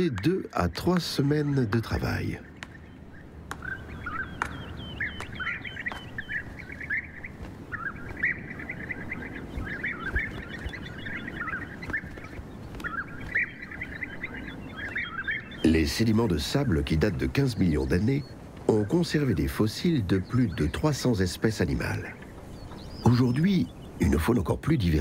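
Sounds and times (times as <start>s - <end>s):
bee-eaters calling: 0.0s - 25.0s.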